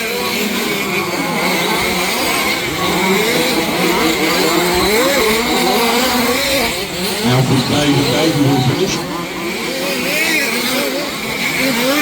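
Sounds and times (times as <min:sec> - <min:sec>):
rc car engines revving: 0:00.0 - 0:12.0.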